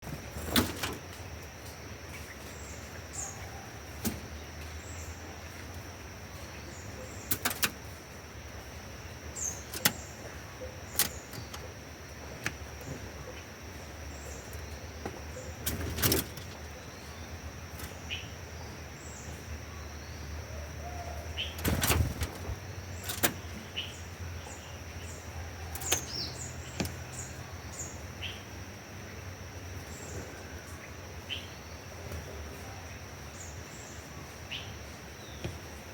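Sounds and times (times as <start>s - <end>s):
small birds chirping: 0.0s - 35.9s
high-pitched insect-like whine: 0.1s - 35.9s.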